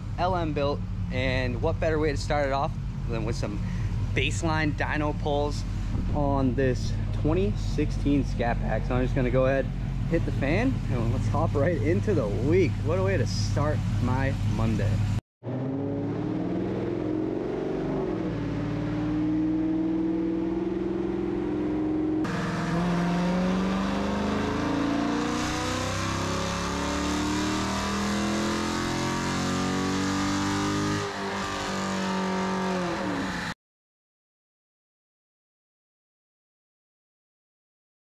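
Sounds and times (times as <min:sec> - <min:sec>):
car engine revving: 0:00.1 - 0:33.6.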